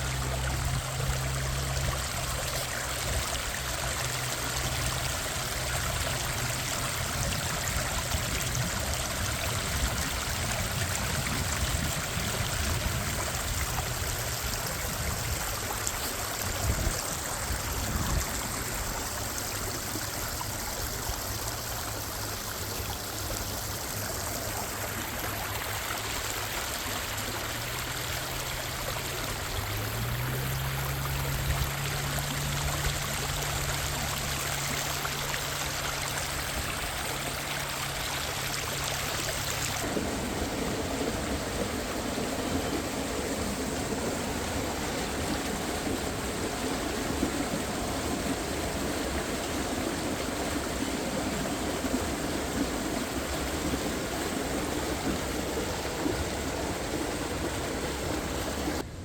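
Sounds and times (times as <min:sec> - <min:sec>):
water rushing and splashing: 0:00.0 - 0:58.9.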